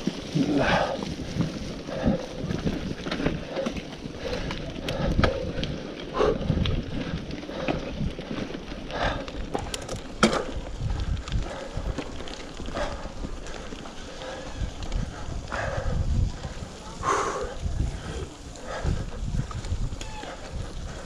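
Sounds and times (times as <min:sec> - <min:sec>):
bike rattling: 0:00.0 - 0:21.0
bike tyres crunching on dirt: 0:00.0 - 0:21.0.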